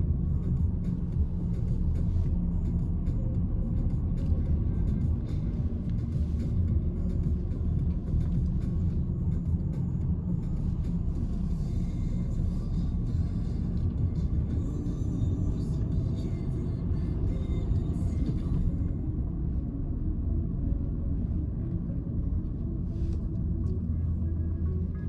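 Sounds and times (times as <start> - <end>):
car engine in cabin: 0.0 - 25.0
road noise: 0.0 - 25.0.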